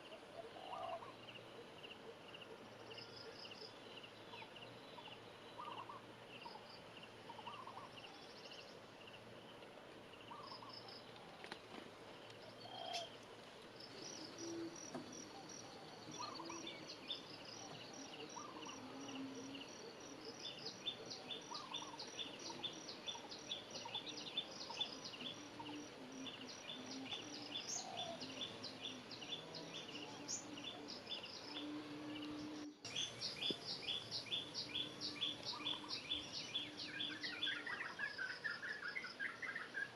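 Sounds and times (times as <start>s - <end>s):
faint insect hum: 0.0s - 39.9s
small birds chirping: 0.0s - 39.9s.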